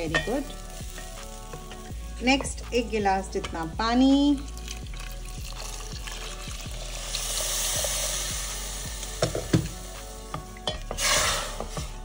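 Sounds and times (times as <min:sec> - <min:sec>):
water sizzling in hot cooker: 0:00.0 - 0:12.0.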